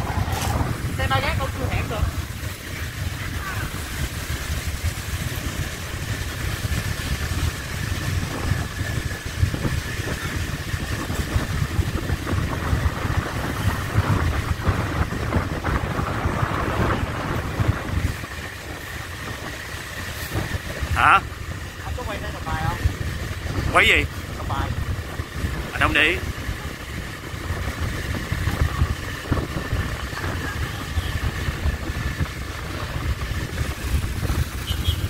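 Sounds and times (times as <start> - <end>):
motorbike engine: 0.0 - 35.0
wind buffeting microphone: 0.0 - 35.0.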